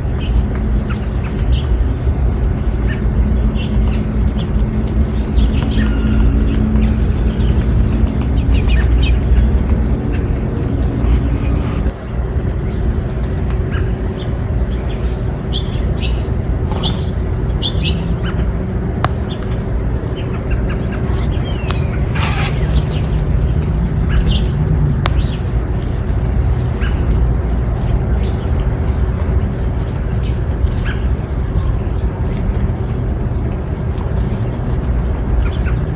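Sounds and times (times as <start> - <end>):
steady low rumble: 0.0 - 35.4
small birds chirping: 0.1 - 32.1.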